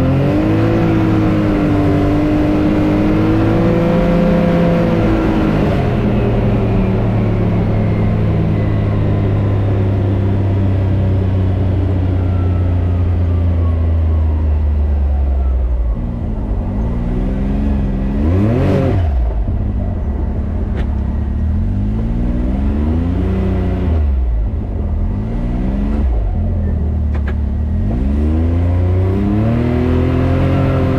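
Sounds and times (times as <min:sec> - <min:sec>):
engine running and revving: 0:00.0 - 0:30.9.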